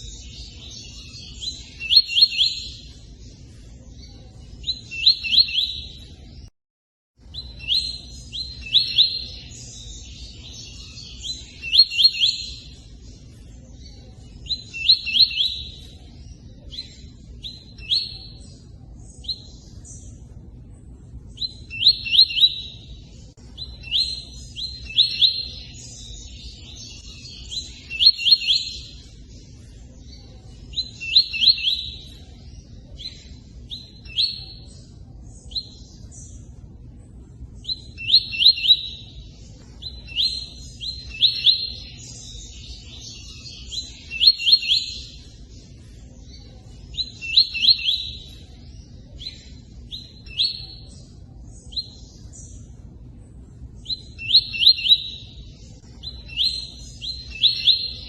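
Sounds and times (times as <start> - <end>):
bird singing high rising notes: 0.0 - 6.5, 7.2 - 58.0.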